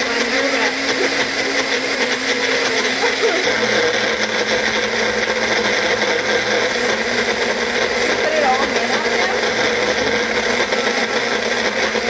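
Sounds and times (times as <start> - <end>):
blender running: 0.0 - 12.0.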